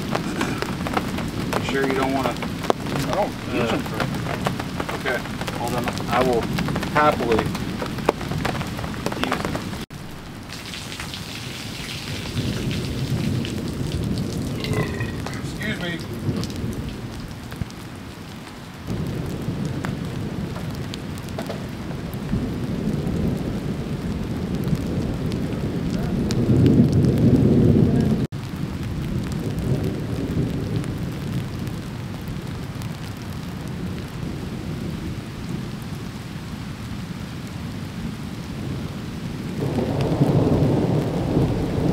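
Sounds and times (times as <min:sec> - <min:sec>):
steady rain falling: 0:00.0 - 0:41.9
thunder rumbling: 0:00.0 - 0:41.9.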